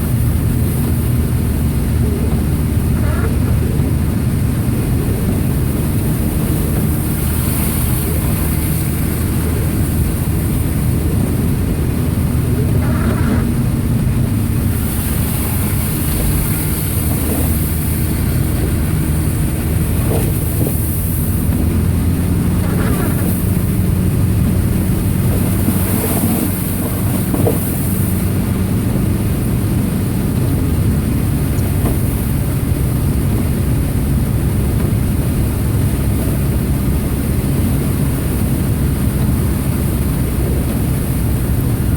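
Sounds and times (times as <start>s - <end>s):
car engine drone: 0.0s - 41.9s
road and tyre noise: 0.0s - 41.9s.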